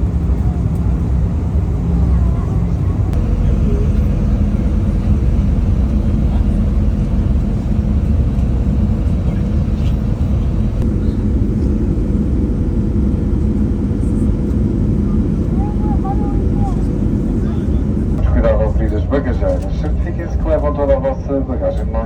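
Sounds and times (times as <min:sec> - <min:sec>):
airliner cabin engine drone: 0:00.0 - 0:22.0.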